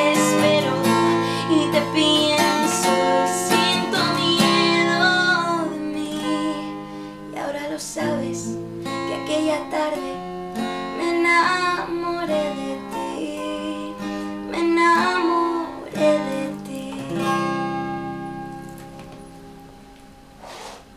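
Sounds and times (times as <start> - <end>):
woman singing: 0.0 - 17.6
acoustic guitar strumming: 0.0 - 20.4.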